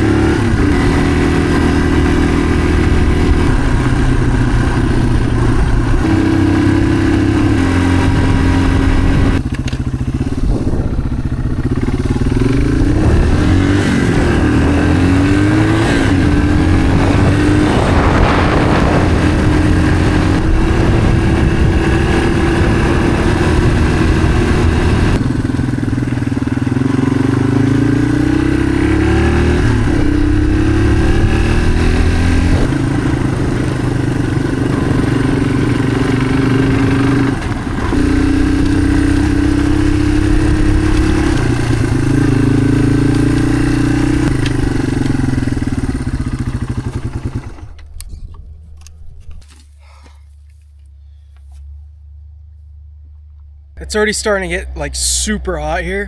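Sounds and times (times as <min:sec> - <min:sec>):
motorcycle engine running: 0:00.0 - 0:49.2.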